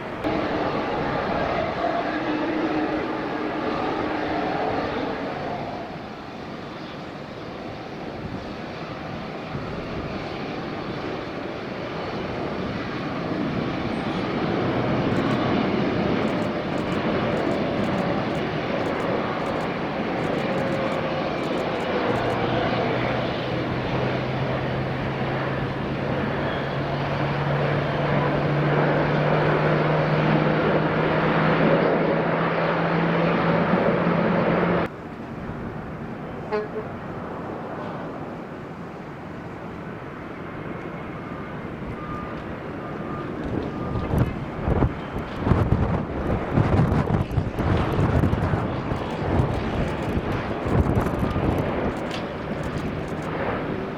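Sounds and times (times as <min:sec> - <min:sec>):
jet engines rushing: 0:00.0 - 0:53.9.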